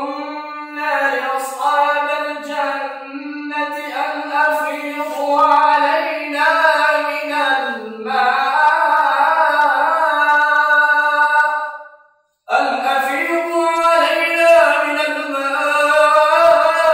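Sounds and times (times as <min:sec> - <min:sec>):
man chanting melodically: 0:00.0 - 0:11.8, 0:12.5 - 0:16.9.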